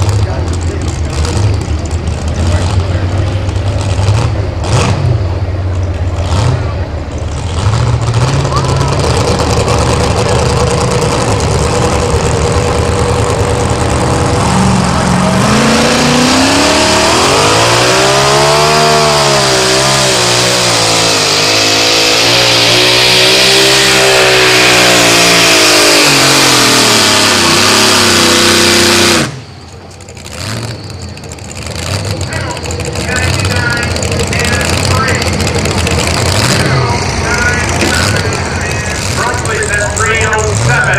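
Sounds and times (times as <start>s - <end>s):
supercharged engine at full throttle: 0.0s - 40.9s.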